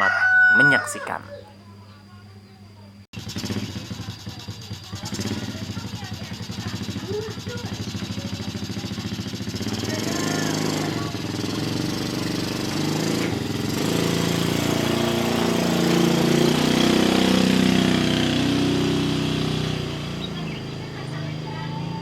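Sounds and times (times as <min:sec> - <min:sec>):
small engine running: 0:03.2 - 0:22.0.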